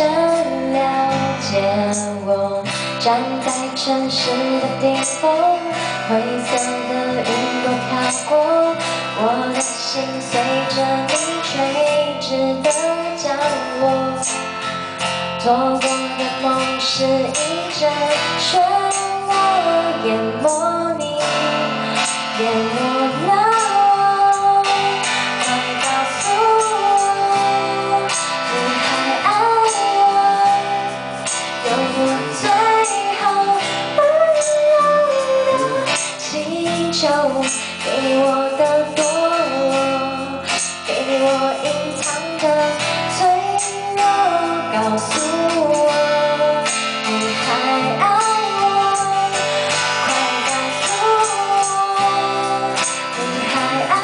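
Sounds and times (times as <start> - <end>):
electric bass: 0.0 - 54.0
strummed acoustic guitar: 0.0 - 54.0
woman singing: 0.0 - 54.0.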